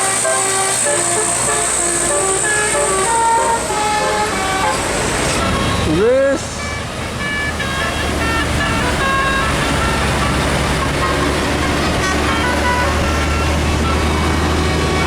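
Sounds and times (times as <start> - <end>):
bus engine droning: 0.0 - 15.0.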